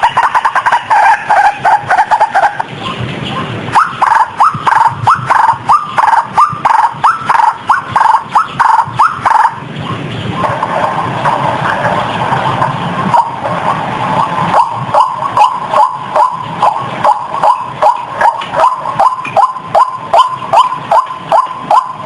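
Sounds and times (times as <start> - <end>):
waterhen calling: 0.0 - 22.0.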